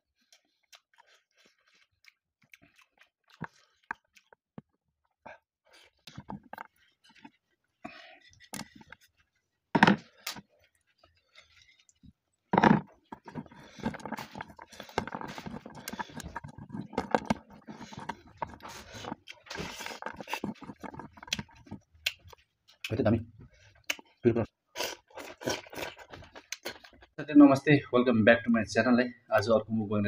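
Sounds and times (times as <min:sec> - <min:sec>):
fingers squishing rice and curry: 0:00.2 - 0:04.8, 0:05.7 - 0:27.2.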